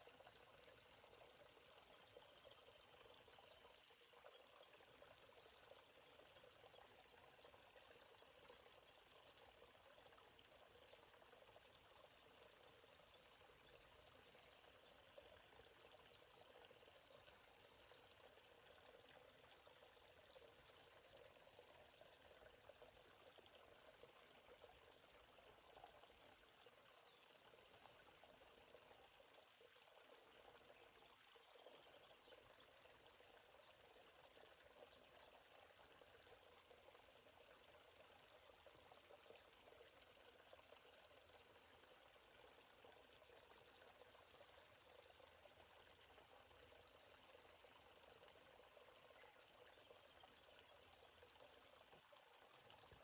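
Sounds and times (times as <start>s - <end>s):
faint forest stream: 0.0s - 53.0s
insects chirring: 0.0s - 53.0s.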